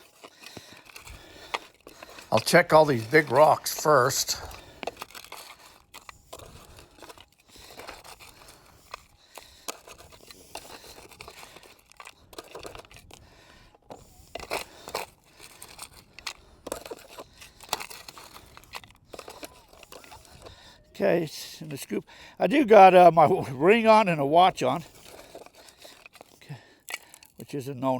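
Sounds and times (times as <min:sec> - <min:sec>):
dirt and gravel scraping: 0:00.0 - 0:27.9.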